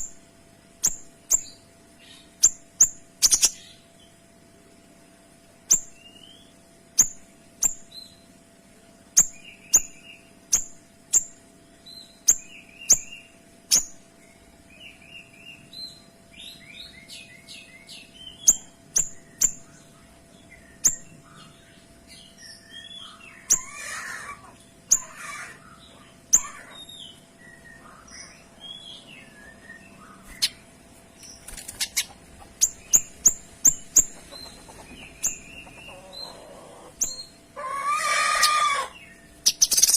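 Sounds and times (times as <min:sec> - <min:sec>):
soft bird chirping and twittering: 0:00.0 - 0:04.3, 0:05.6 - 0:08.4, 0:09.1 - 0:39.9.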